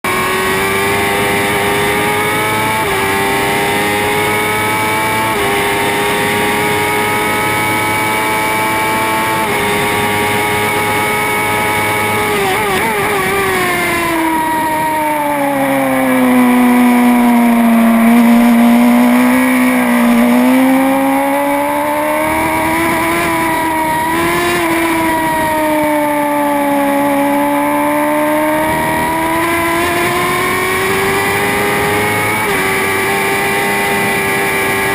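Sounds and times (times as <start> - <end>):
racing motorcycle engine revving: 0.0 - 34.9.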